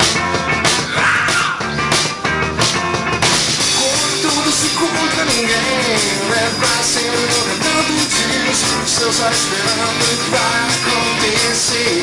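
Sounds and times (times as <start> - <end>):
gliding lead guitar line: 0.0 - 12.0
rock band playing: 0.0 - 12.0.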